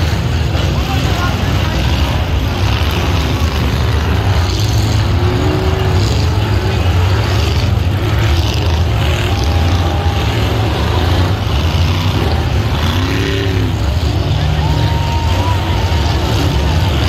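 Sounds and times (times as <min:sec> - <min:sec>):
engine revs: 0:00.0 - 0:17.0
off-road car engines rumbling: 0:00.0 - 0:17.0.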